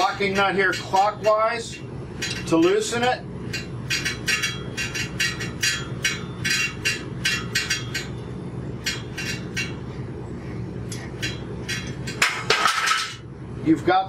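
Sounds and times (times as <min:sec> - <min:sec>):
metallic scraping and clinking: 0:00.0 - 0:13.3.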